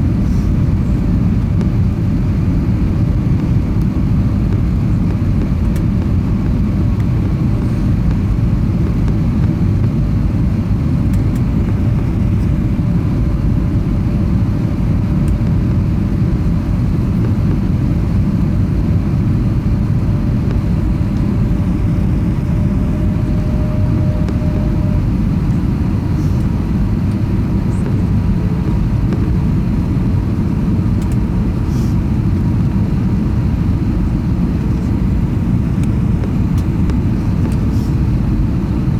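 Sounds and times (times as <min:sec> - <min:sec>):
airplane cabin rumble: 0:00.0 - 0:38.9
faint steady hum: 0:00.0 - 0:38.9.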